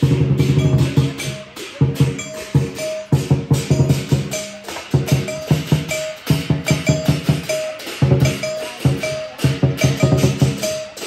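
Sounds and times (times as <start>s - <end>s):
drum struck in quick runs: 0.0s - 11.0s.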